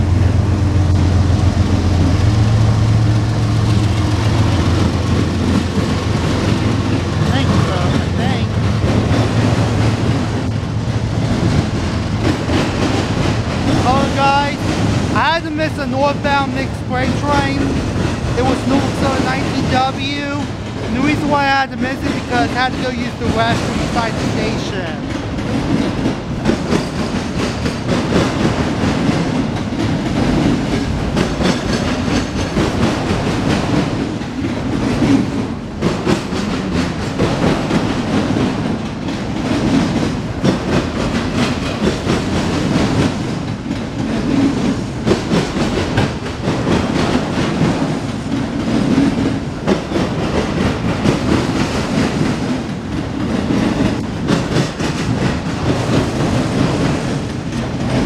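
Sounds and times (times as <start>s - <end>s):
freight train rolling past: 0.0s - 58.0s
wheels clacking over rail joints: 0.0s - 58.0s.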